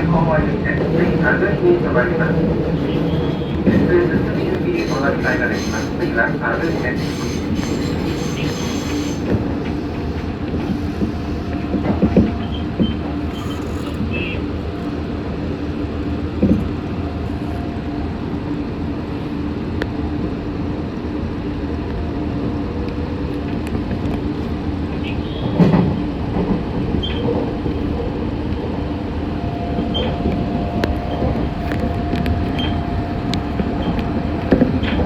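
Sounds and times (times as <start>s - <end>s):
train hum: 0.0s - 35.0s
train wheels rumbling on rail: 0.0s - 35.0s.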